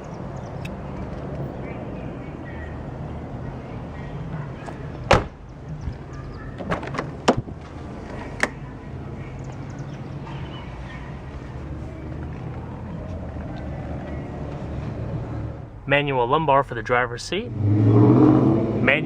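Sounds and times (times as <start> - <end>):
car engine idling: 0.0 - 17.4.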